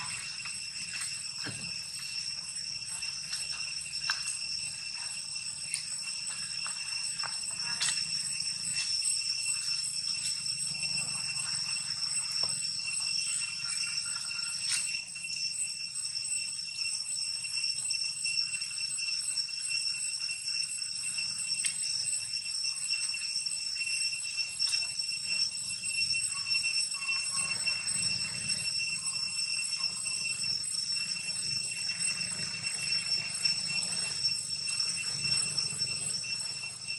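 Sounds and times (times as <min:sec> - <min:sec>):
insects buzzing: 0:00.0 - 0:36.9.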